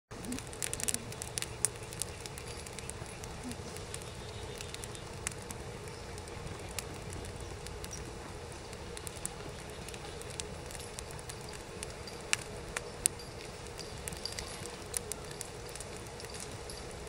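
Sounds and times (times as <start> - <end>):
low fire hiss: 0.1 - 17.0
sharp pops of fire: 0.1 - 17.0
wood fire crackling: 0.1 - 17.0.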